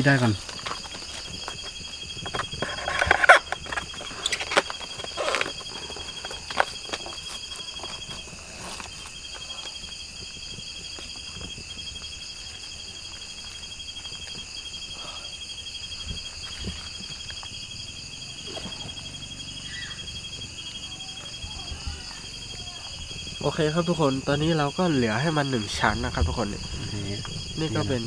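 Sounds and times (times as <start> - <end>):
crickets trilling: 0.0 - 28.0
fast pulsed insect trill: 0.0 - 28.0.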